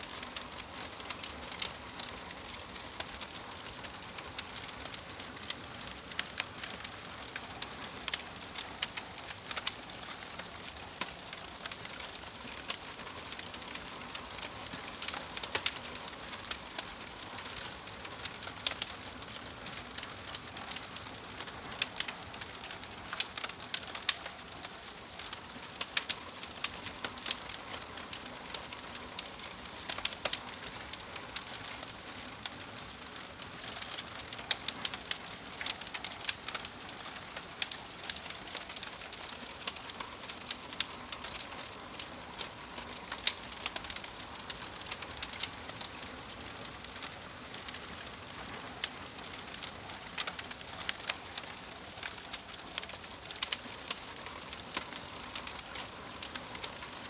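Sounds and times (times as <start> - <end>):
fire popping and snapping: 0.0 - 57.0
fire hissing: 0.1 - 57.0.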